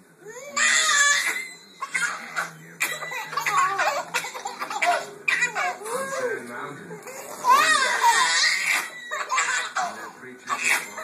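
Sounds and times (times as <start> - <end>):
babies laughing: 0.6 - 6.4, 7.1 - 11.0.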